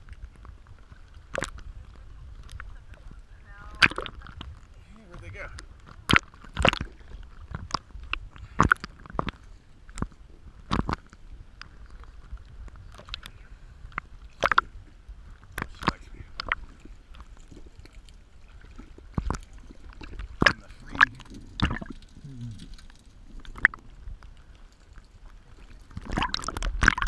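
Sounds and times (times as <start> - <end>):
waves slapping and splashing: 0.0 - 22.2, 23.2 - 27.0
low rumble of moving water: 0.0 - 27.0.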